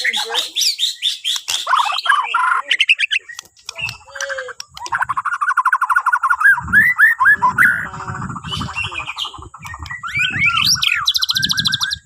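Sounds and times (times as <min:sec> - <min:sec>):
songbird whistling and chirping: 0:00.0 - 0:12.0.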